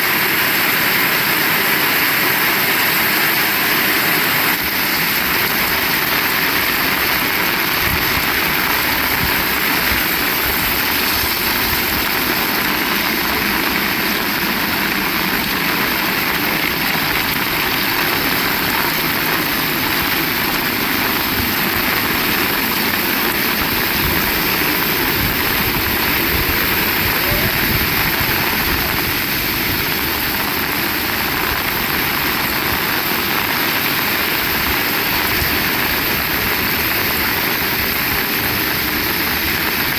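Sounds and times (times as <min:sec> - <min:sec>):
heavy rain pouring: 0:00.0 - 0:39.9
wind gusting against microphone: 0:04.3 - 0:39.9.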